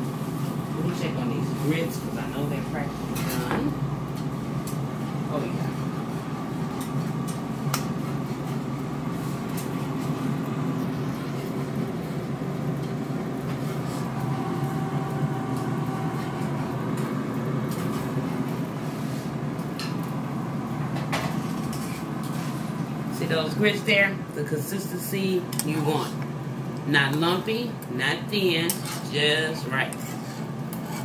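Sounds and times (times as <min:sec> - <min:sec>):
air fryer fan humming: 0:00.0 - 0:31.0.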